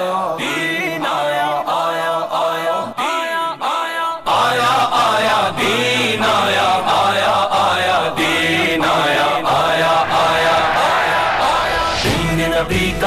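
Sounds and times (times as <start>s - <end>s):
lead voice singing: 0.0s - 13.0s
men chanting in chorus: 0.0s - 13.0s.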